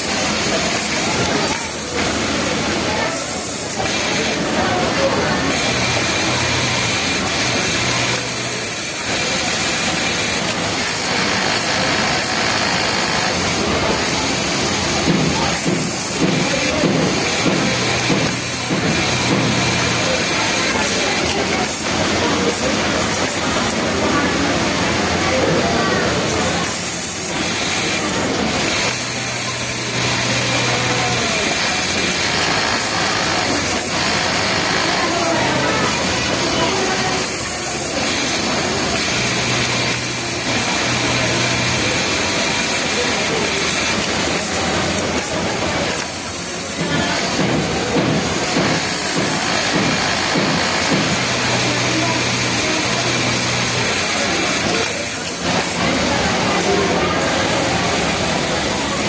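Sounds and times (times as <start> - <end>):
faint voices: 0.0 - 59.0
sewing machine running: 0.0 - 59.0.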